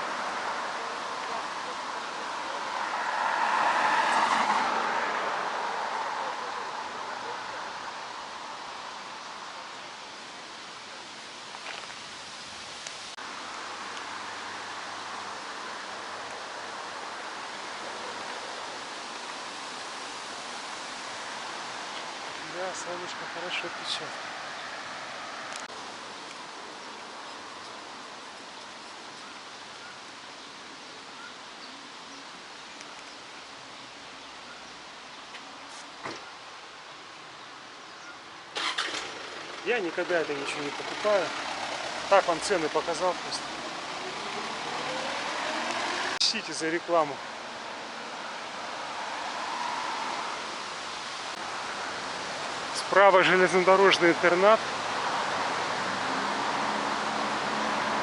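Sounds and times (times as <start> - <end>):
wind rustling: 0.0 - 58.0.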